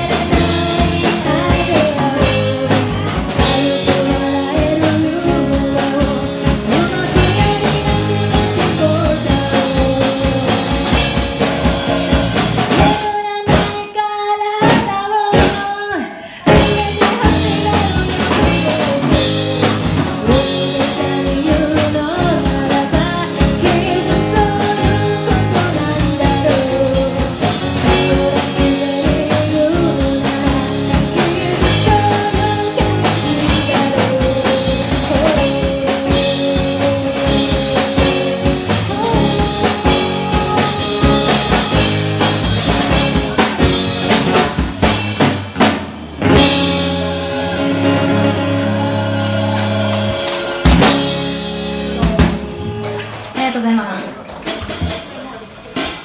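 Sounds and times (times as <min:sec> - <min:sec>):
woman singing: 0:00.0 - 0:44.2, 0:46.3 - 0:51.4
rock band playing: 0:00.0 - 0:56.0.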